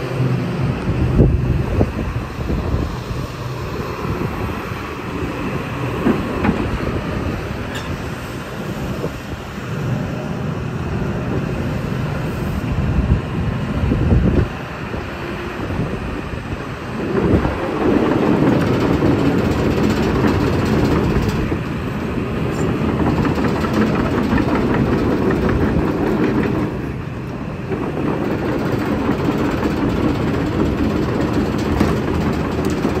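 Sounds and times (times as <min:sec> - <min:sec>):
diesel engine running: 0:00.0 - 0:33.0
excavator steel tracks clattering: 0:00.0 - 0:33.0.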